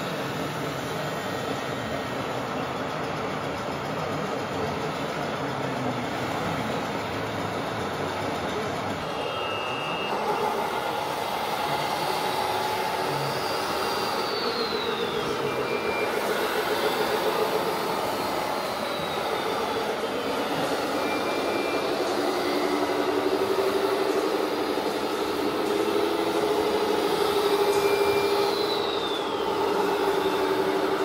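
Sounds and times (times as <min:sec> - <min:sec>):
high motor whine: 0:00.0 - 0:31.0
model vehicles mechanical whir: 0:00.0 - 0:31.0.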